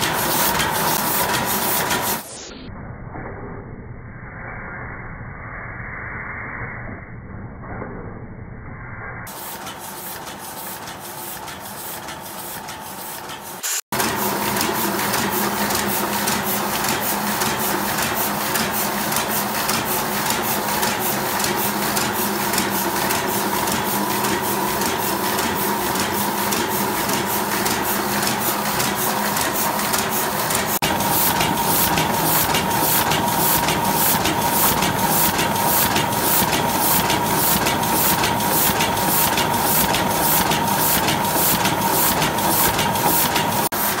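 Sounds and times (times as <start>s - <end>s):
printing press hum and clicking: 0.0s - 2.4s, 9.3s - 44.0s.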